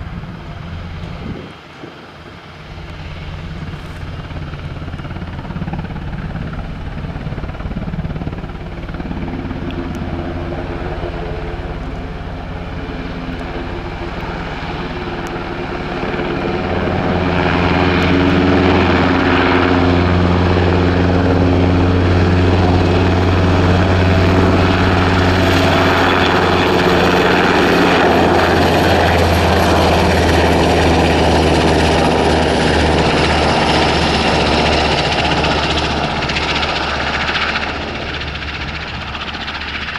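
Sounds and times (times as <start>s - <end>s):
helicopter lifting off: 0.0s - 39.9s.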